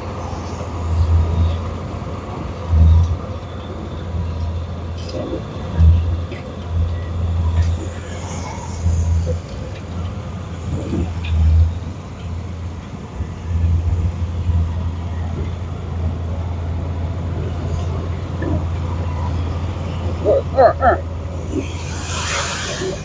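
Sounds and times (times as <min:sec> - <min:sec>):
motor vehicles rumbling: 0:00.0 - 0:23.0.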